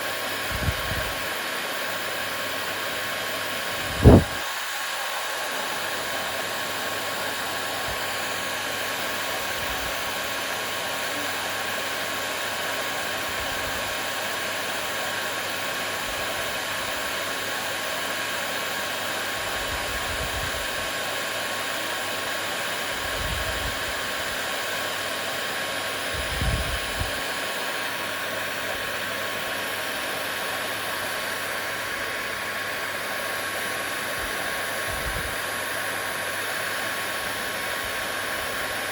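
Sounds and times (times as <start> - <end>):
hair dryer whooshing: 0.0 - 38.9.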